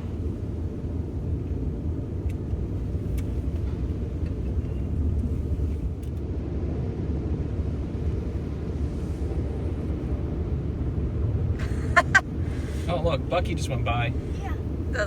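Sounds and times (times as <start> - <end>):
car wash low rumble: 0.0 - 15.0.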